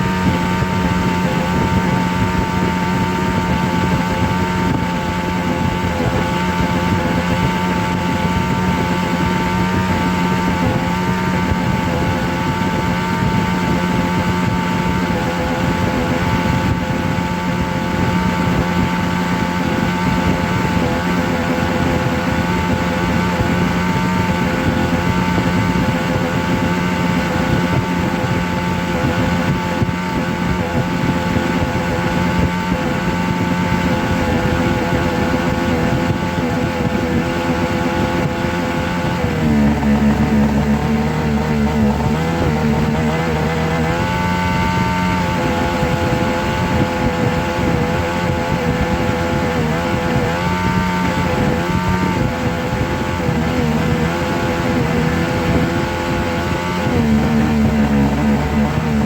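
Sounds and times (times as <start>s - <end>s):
motor drone with whine: 0.0s - 59.0s.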